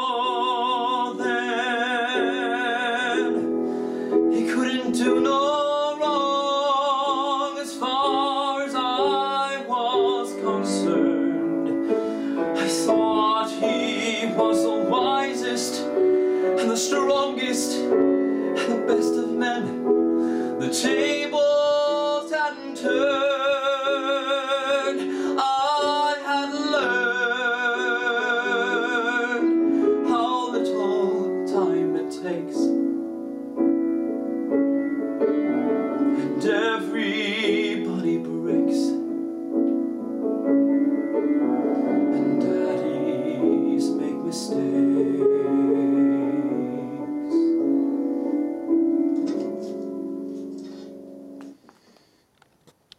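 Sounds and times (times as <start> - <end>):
man singing with vibrato: 0.0 - 33.0, 35.2 - 39.2, 41.1 - 47.8
piano accompaniment: 0.0 - 52.9.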